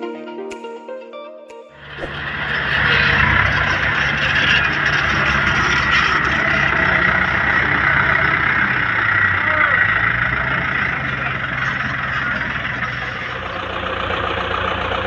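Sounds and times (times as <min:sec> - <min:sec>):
truck diesel engine running: 0:01.8 - 0:15.0.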